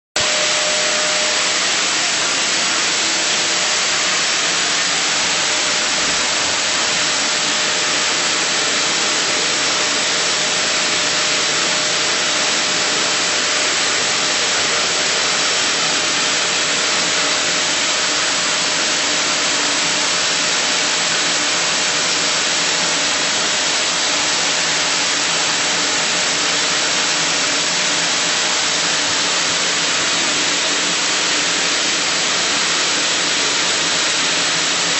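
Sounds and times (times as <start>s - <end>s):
vacuum cleaner running: 0.2s - 34.9s.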